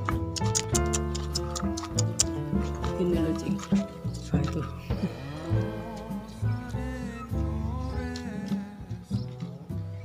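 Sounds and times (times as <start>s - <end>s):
gliding melody over bass: 0.9s - 10.0s.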